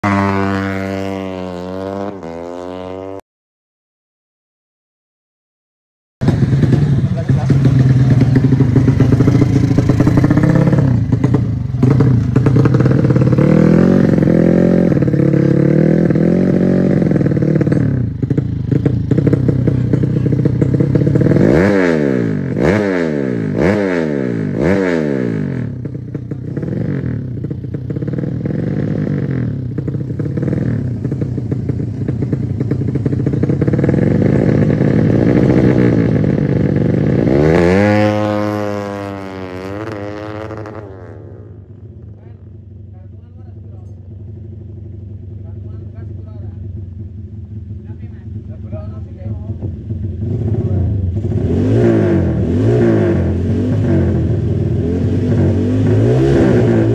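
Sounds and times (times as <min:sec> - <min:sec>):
motorcycle engine revving: 0:00.0 - 0:03.2, 0:06.2 - 0:56.9.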